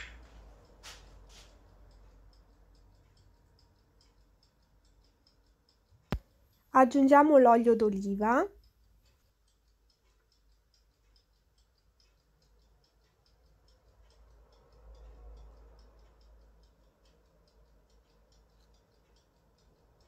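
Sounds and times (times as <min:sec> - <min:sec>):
rapid faint ticks: 0:00.0 - 0:20.0.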